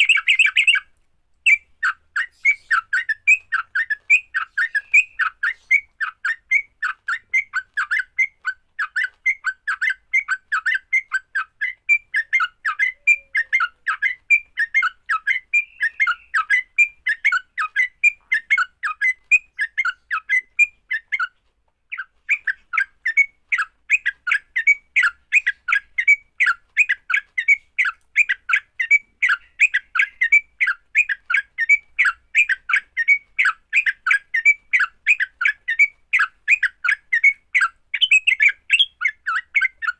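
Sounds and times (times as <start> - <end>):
bird chirping call: 0.0 - 39.9.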